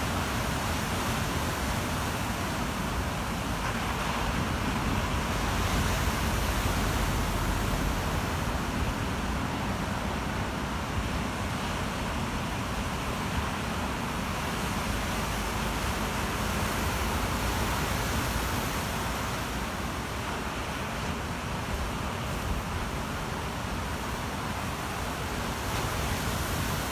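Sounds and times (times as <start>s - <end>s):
waves breaking: 0.0s - 26.9s.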